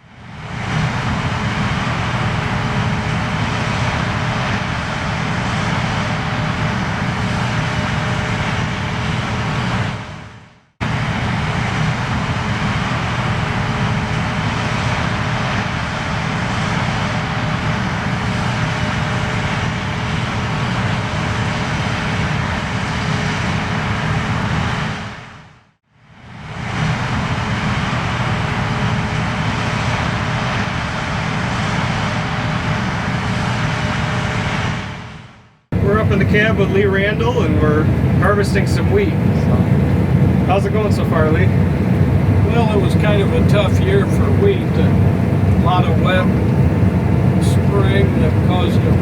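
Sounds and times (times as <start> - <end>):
combine harvester engine drone: 0.0 - 49.0.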